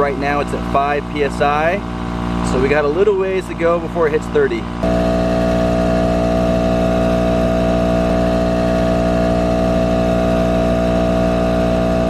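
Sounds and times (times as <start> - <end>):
tire inflator running: 0.0 - 12.0.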